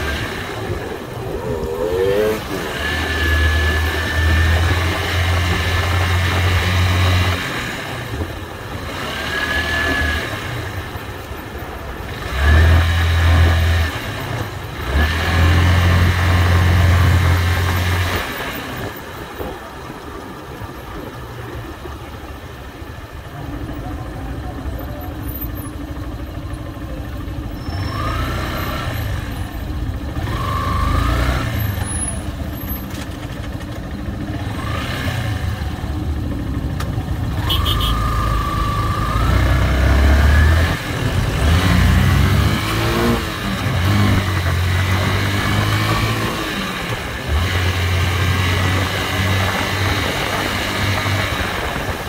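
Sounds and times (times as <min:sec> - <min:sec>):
motorcycle engine revving: 0:00.0 - 0:19.5, 0:22.4 - 0:52.0
traffic: 0:00.0 - 0:52.0.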